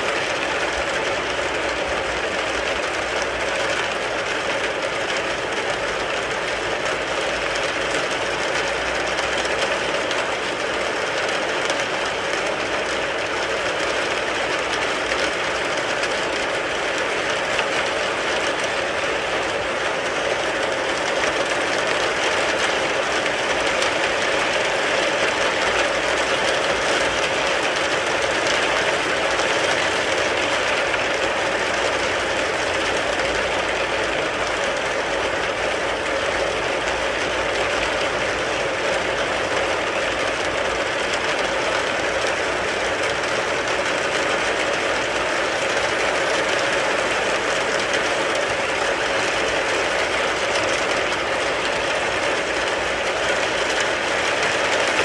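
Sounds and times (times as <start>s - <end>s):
rain pattering on car: 0.0s - 55.0s.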